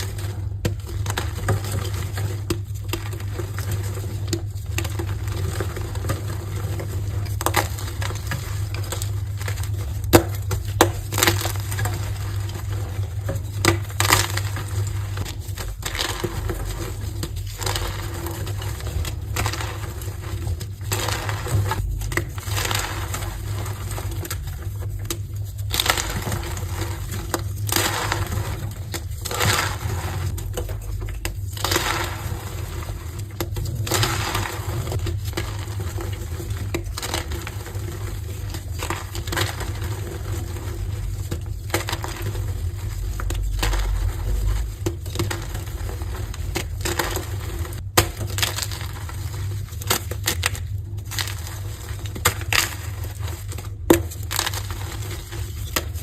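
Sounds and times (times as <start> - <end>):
chalk blocks crunching by hand: 0.0 - 56.0.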